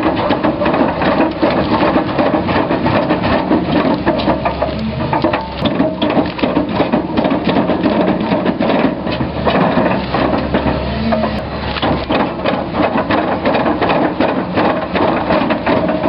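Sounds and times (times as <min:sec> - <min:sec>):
excavator engine running: 0:00.0 - 0:16.0
wood splitting and crunching: 0:00.0 - 0:16.0.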